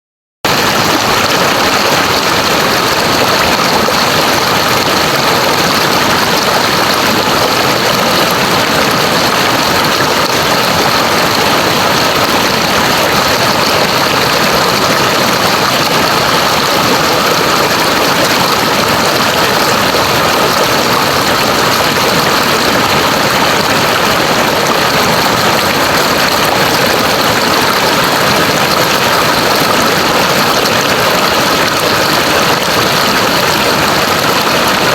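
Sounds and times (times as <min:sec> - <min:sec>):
river water rushing: 0:00.5 - 0:34.9.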